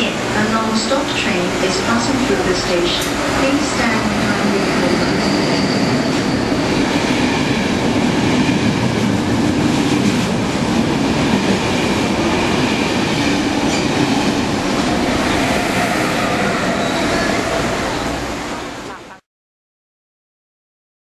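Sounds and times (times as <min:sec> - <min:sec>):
train wheels on rails: 0:00.0 - 0:19.0
electric locomotive passing: 0:00.0 - 0:19.2.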